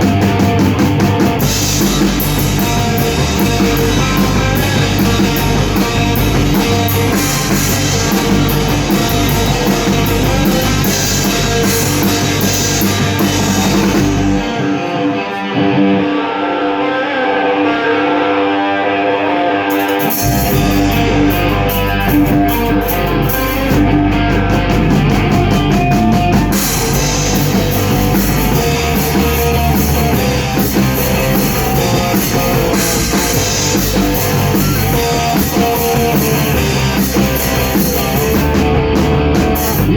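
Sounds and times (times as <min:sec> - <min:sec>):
electric guitar playing alone: 0:00.0 - 0:39.9
rock band playing: 0:00.0 - 0:39.9.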